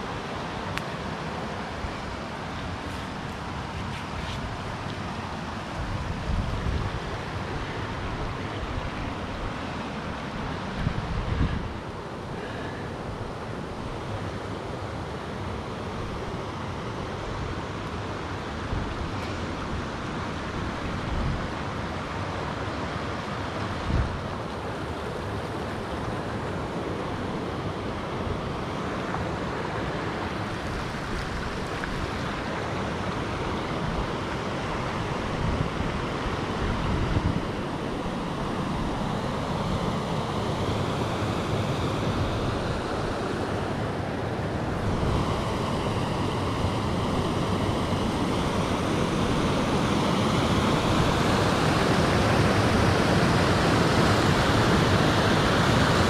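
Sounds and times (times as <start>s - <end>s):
river rapids rushing over rocks: 0.0s - 56.0s.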